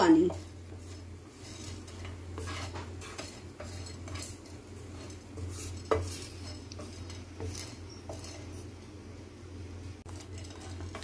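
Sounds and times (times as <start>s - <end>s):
spatula scraping spices in a pan: 0.0s - 8.8s, 10.1s - 11.0s.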